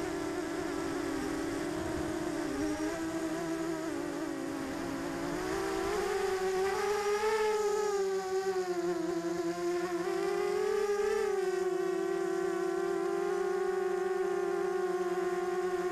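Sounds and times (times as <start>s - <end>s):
quadcopter motors buzzing: 0.0s - 15.9s.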